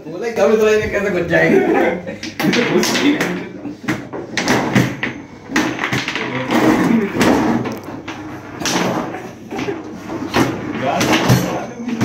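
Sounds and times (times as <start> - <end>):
table football knocks and clacks: 2.2 - 12.0.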